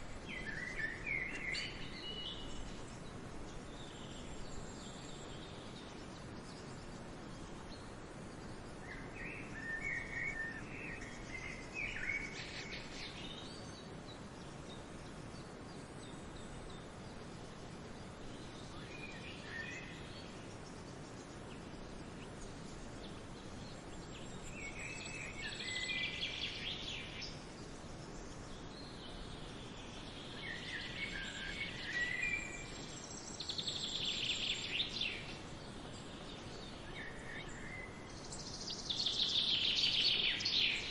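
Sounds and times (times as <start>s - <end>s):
outdoor background hiss: 0.0s - 40.9s
small birds chirping: 0.0s - 40.9s.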